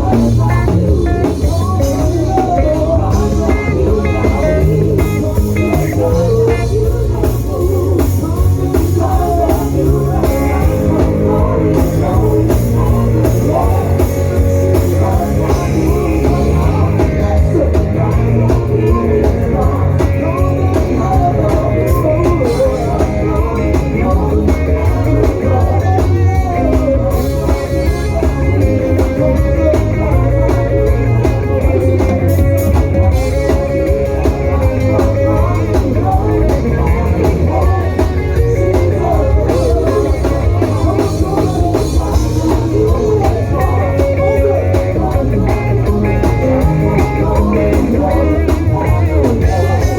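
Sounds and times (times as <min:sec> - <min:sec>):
bass guitar: 0:00.0 - 0:49.9
drum kit: 0:00.0 - 0:49.9
electric guitar: 0:00.0 - 0:49.9
person singing: 0:00.0 - 0:49.9.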